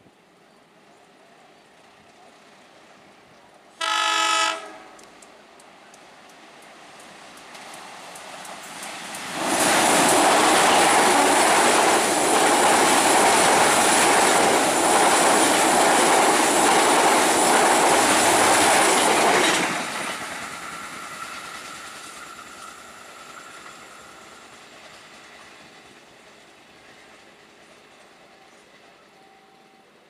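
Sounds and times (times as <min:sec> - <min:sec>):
train wheels clattering on rails: 0:05.0 - 0:29.2.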